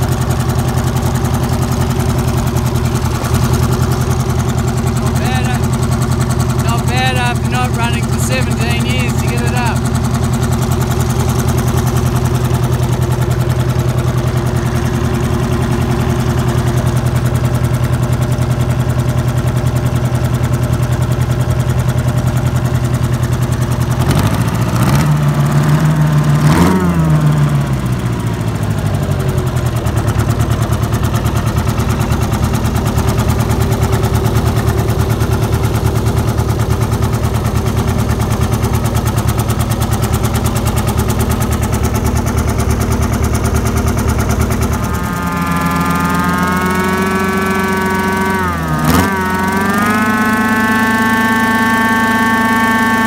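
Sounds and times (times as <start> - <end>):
diesel engine idling and revving: 0.0 - 53.0.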